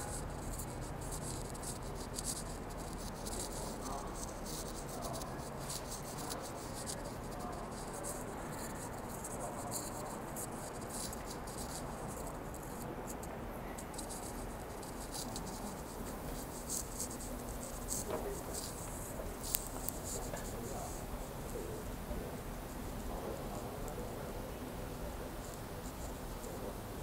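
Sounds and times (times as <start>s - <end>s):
indoor concourse hum: 0.0s - 27.0s.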